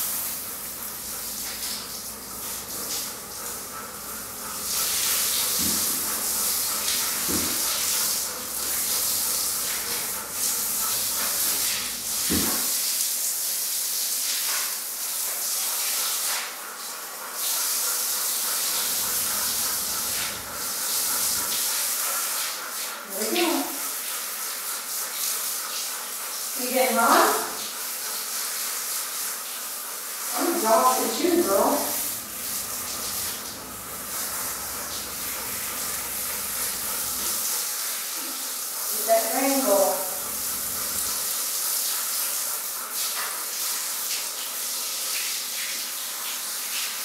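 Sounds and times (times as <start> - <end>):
shower head spraying water: 0.0 - 47.0.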